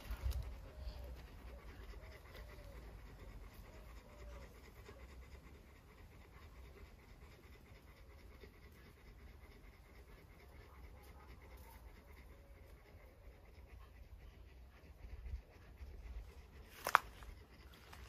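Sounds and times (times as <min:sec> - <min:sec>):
faint animal panting: 0:00.0 - 0:18.0.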